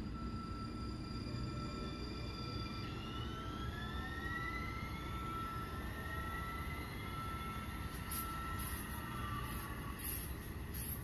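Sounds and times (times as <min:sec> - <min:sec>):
steady high tone: 0:00.0 - 0:11.0
electric motor whine: 0:00.2 - 0:11.0.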